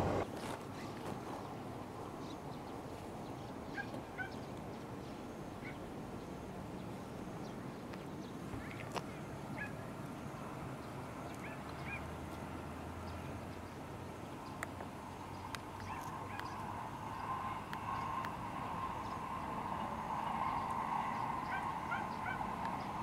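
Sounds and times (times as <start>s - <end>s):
background hiss: 0.0s - 23.0s
low steady hum: 0.0s - 23.0s
birds chirping: 2.2s - 23.0s.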